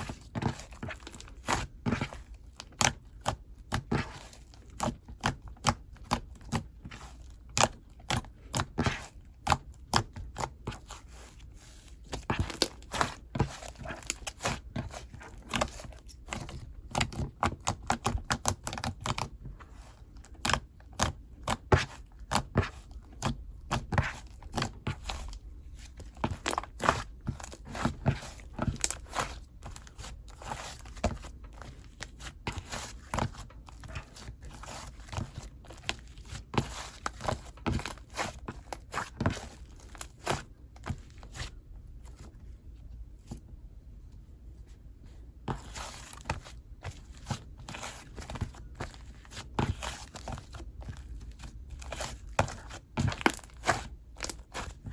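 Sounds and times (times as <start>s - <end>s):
hands squishing slime: 0.0s - 42.3s, 45.4s - 54.9s.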